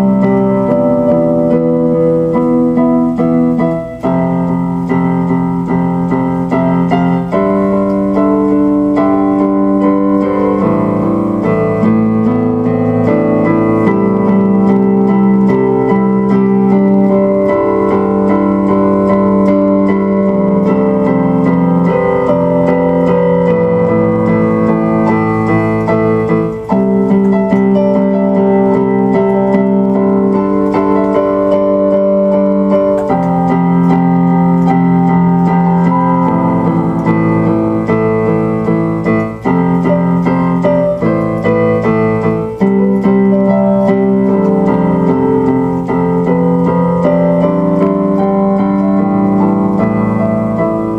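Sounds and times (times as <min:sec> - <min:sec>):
electric piano chords: 0:00.0 - 0:50.9.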